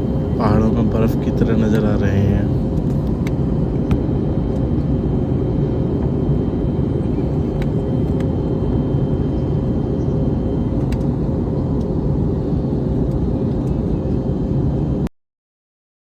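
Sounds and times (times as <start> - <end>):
airplane engines droning: 0.0 - 15.1.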